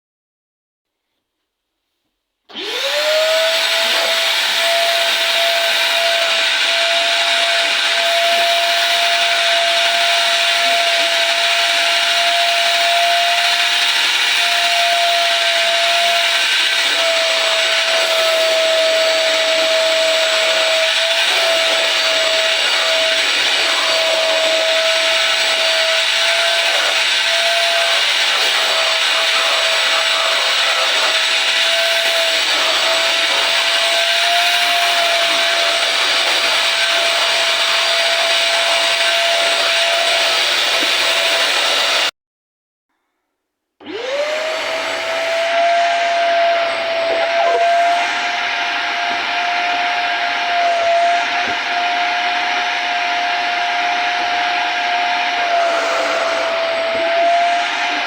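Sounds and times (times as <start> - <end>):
vacuum cleaner motor whining: 2.5 - 42.1, 43.8 - 58.0.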